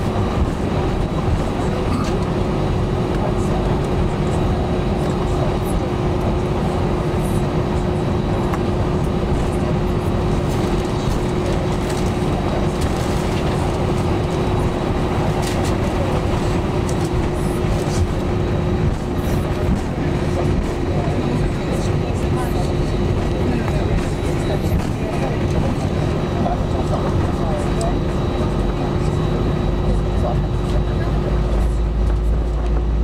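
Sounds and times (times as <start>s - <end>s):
aircraft cabin rumble: 0.0s - 33.0s
constant hum: 0.0s - 33.0s.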